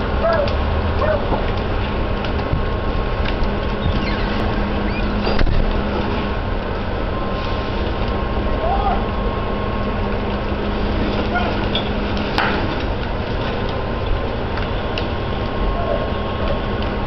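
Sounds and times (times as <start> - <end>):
distant voices: 0.0 - 17.0
fire engines rumbling: 0.0 - 17.0.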